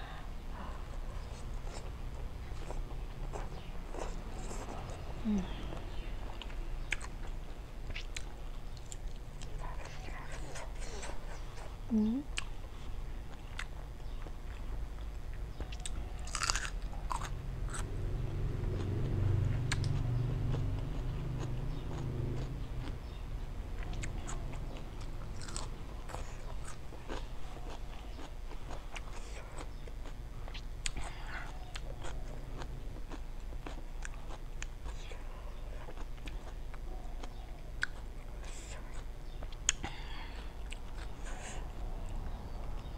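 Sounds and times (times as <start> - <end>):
wet chewing and crunching: 1.0 - 42.9.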